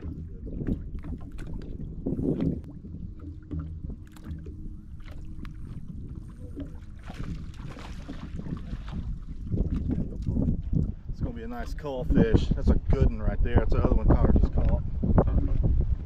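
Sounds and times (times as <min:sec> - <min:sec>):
fishing boat rumbling: 0:00.0 - 0:16.0.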